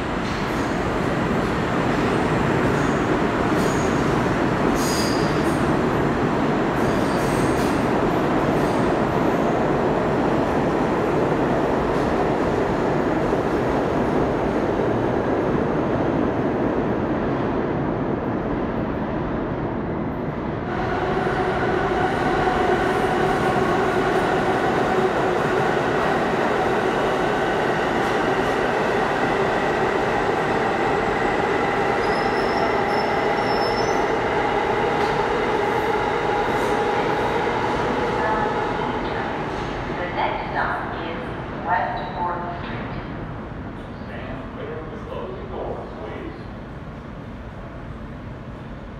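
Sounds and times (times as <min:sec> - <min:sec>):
subway train rumble: 0:00.0 - 0:48.9.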